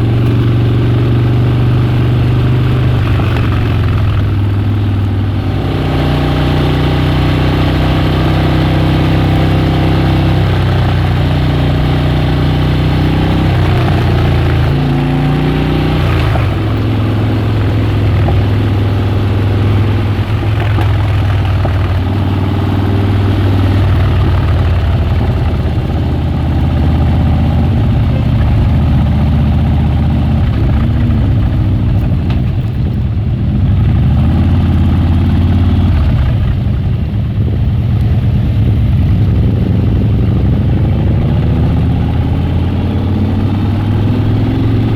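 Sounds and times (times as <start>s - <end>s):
motorcycle engine running loud: 0.0s - 44.9s.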